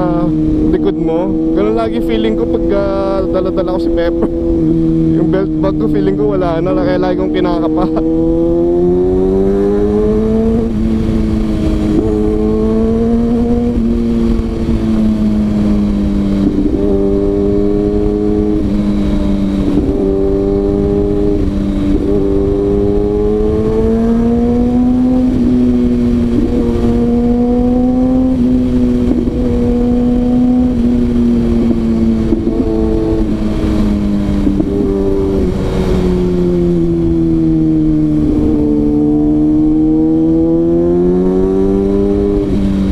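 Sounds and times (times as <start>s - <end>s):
motorcycle engine accelerating: 0.0s - 42.9s
wind noise rushing: 0.0s - 42.9s.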